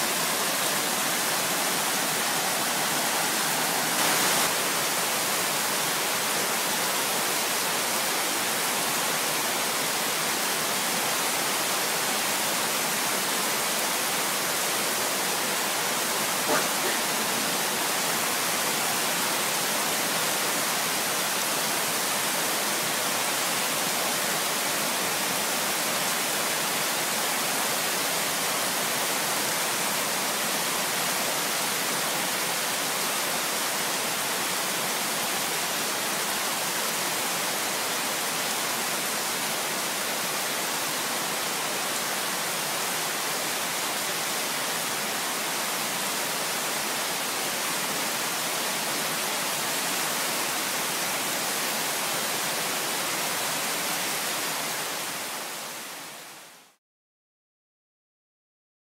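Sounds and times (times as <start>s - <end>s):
heavy rain pouring: 0.0s - 56.2s.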